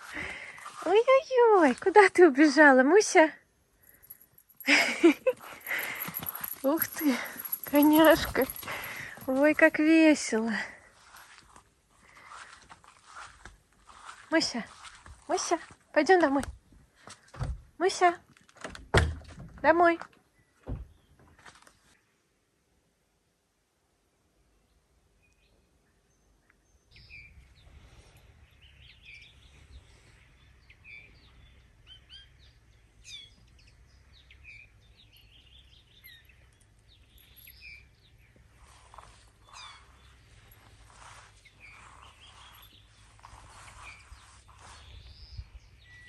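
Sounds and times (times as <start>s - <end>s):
small birds chirping: 0.0s - 3.2s, 3.8s - 17.3s, 24.7s - 46.0s.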